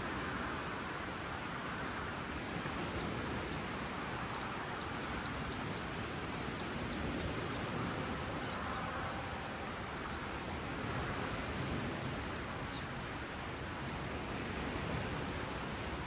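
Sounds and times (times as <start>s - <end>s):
steady rushing background noise: 0.0s - 16.0s.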